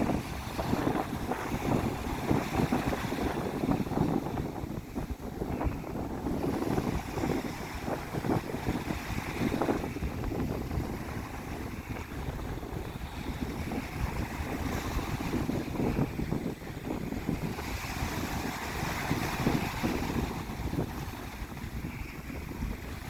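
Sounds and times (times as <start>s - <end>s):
water and small waves: 0.0s - 23.0s
wind gusting against microphone: 0.0s - 23.0s.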